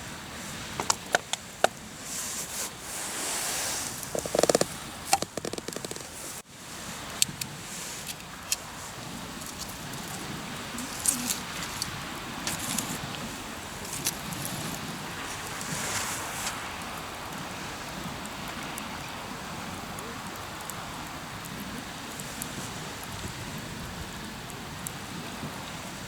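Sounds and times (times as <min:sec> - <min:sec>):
campfire crackling and popping: 0:00.3 - 0:26.0.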